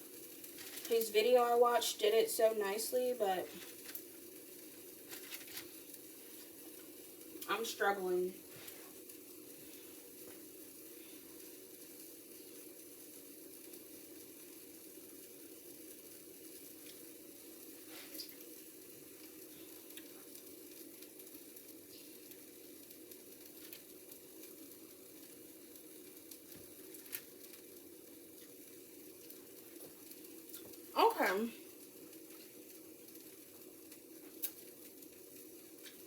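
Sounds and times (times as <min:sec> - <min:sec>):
faint kitchen hiss: 0:00.0 - 0:36.0.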